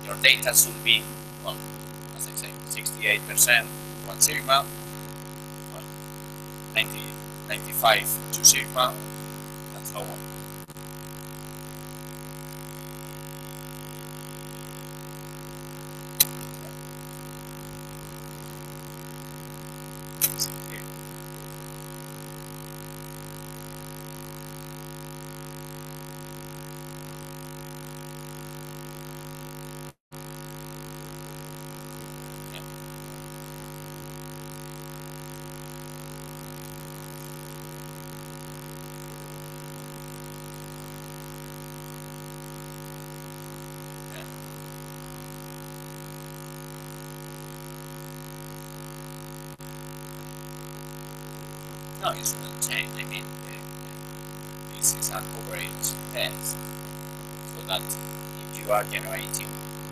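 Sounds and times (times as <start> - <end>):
steady electrical hum: 0.0 - 22.8, 30.3 - 46.4, 49.1 - 59.9.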